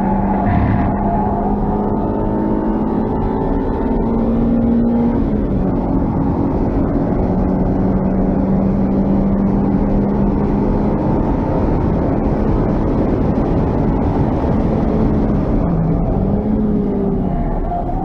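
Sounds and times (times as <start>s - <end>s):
car engine running hard: 0.0s - 18.0s
road and wind noise: 0.0s - 18.0s.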